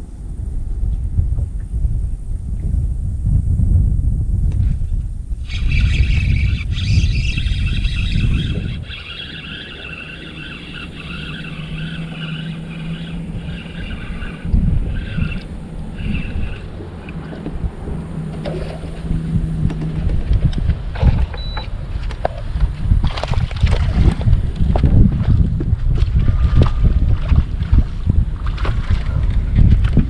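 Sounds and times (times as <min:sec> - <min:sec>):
wind buffeting microphone: 0:00.0 - 0:30.0
electric trolling motor humming: 0:05.3 - 0:30.0
water slapping boat hull: 0:05.5 - 0:30.0.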